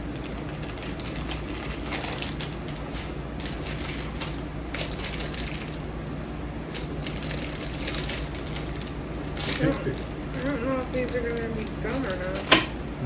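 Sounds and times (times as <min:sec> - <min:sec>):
plastic packet crinkling: 0:00.0 - 0:12.5.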